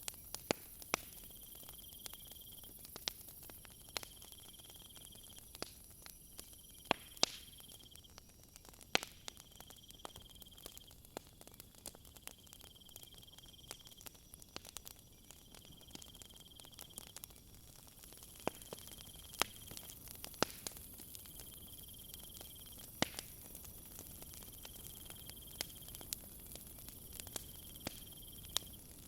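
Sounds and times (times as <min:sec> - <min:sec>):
crickets trilling: 0:00.0 - 0:29.0
wood fire crackling: 0:00.0 - 0:29.0.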